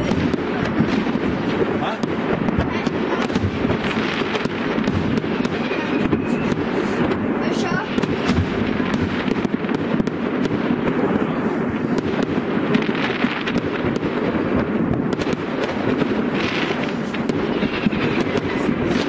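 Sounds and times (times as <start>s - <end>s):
fireworks bangs and crackles: 0.0s - 19.0s
sharp firework cracks: 0.0s - 19.0s.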